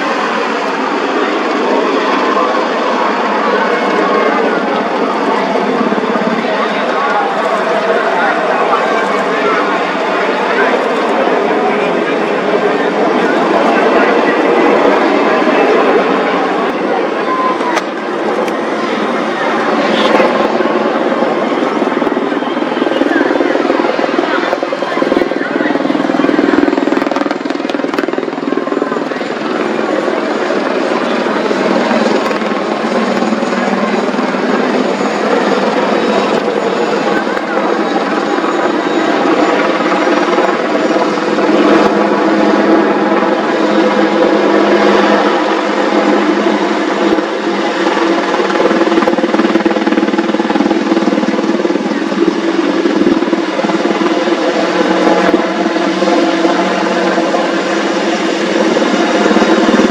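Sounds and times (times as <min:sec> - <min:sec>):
helicopter rotor chopping: 0:00.0 - 0:59.9.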